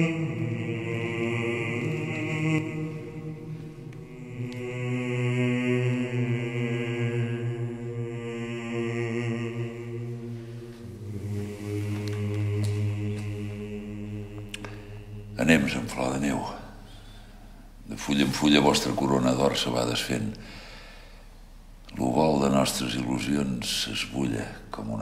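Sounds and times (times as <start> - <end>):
low chanted voices: 0.0 - 25.0.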